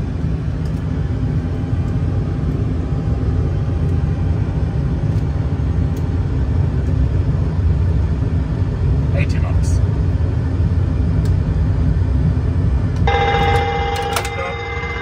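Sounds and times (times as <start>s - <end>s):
jet engines at takeoff thrust: 0.0s - 15.0s.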